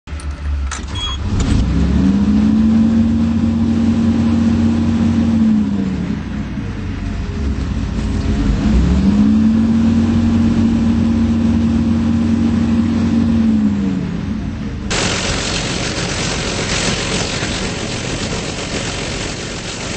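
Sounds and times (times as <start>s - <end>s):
excavator diesel engine revving: 1.2s - 14.2s, 14.9s - 19.9s.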